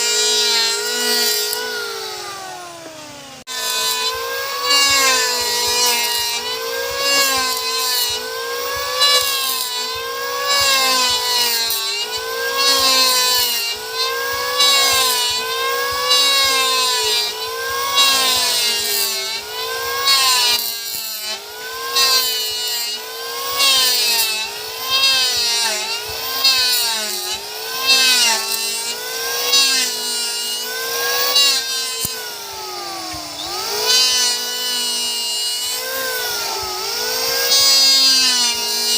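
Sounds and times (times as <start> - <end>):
electric hand planer shaving wood: 0.0 - 38.9.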